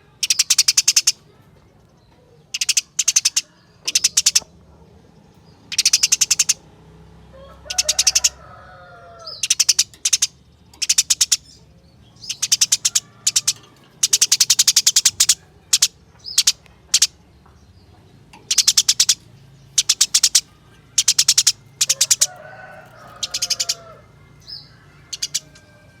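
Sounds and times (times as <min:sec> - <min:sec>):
sparrow rattling chatter: 0:00.0 - 0:06.8, 0:07.4 - 0:26.0.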